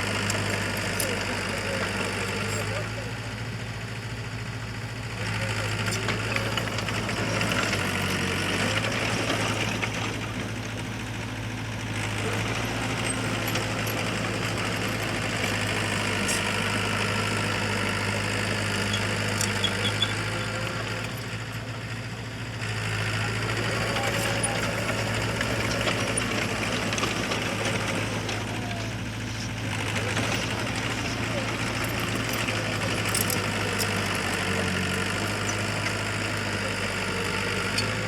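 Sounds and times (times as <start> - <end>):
heavy machine diesel engine: 0.0 - 38.0.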